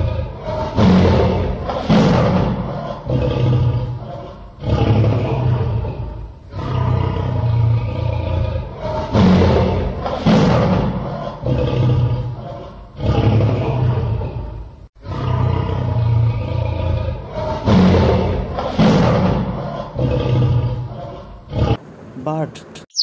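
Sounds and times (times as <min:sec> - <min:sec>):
tiger roaring and growling: 0:00.0 - 0:21.8.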